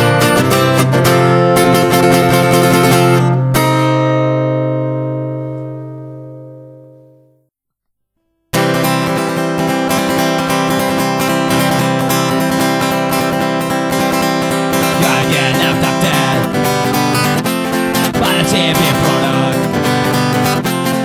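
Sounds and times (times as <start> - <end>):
acoustic guitar strumming: 0.0 - 7.5, 8.5 - 21.0.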